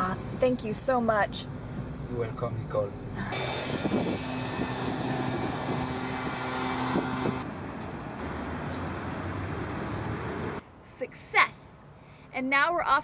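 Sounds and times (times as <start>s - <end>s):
vehicle engine hum: 0.0s - 10.8s
road noise: 0.0s - 13.0s.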